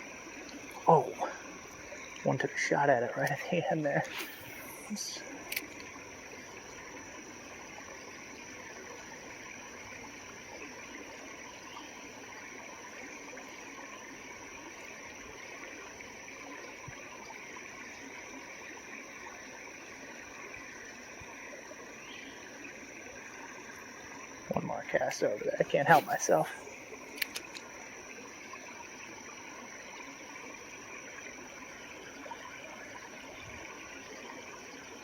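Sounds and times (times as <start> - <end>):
creek water trickling: 0.0 - 35.0.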